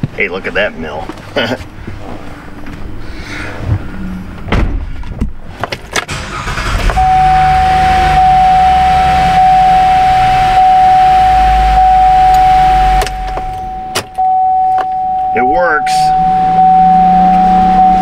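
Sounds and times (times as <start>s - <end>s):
cooling fans whining: 0.0s - 18.0s
car engine cranking and starting: 1.1s - 18.0s.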